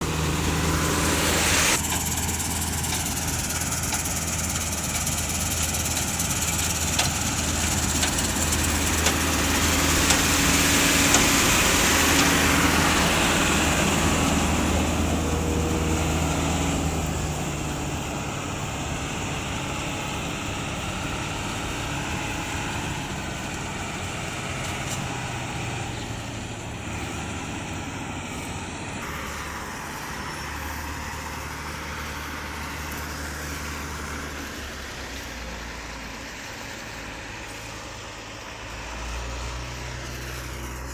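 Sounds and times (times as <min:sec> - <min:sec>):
rushing machine noise: 0:00.0 - 0:35.0
combine harvester engine drone: 0:00.0 - 0:40.9.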